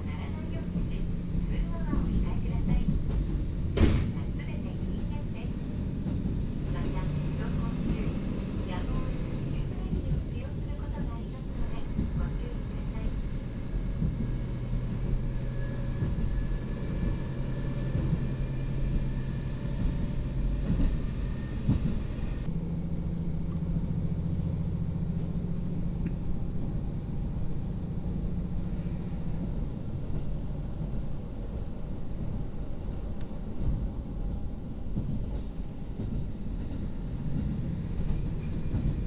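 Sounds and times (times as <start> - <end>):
wheels rumbling on rail: 0.0 - 39.0.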